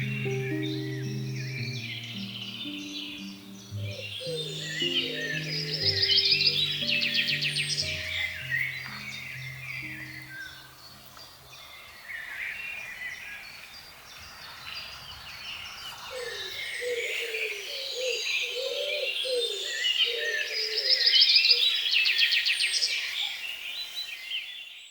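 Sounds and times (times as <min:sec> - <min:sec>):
songbirds singing and chirping: 0:00.0 - 0:24.8.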